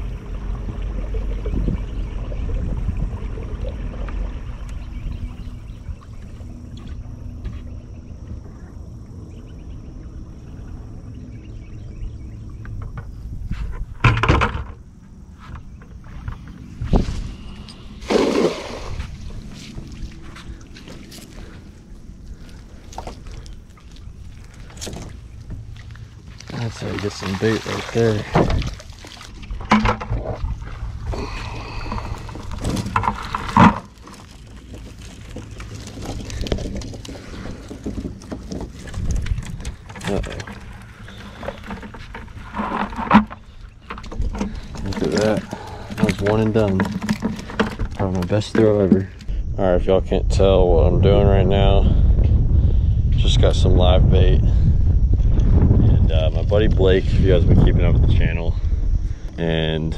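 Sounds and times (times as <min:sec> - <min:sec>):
steady low rumble: 0:00.0 - 0:59.9
water around a boat: 0:00.0 - 0:59.9
wind: 0:00.0 - 0:59.9.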